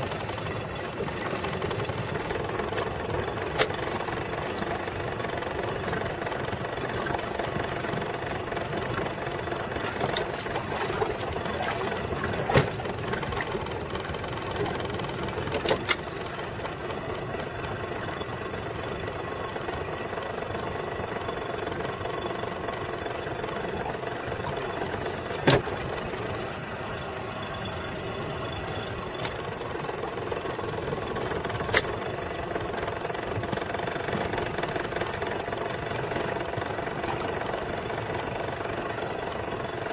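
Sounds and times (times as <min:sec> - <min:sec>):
boat motor running: 0:00.0 - 0:39.9.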